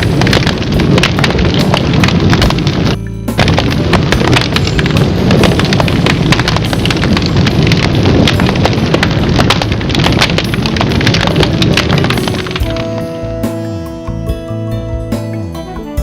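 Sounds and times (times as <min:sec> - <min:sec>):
bonfire crackling and popping: 0:00.0 - 0:13.5
low rumble: 0:00.0 - 0:14.1.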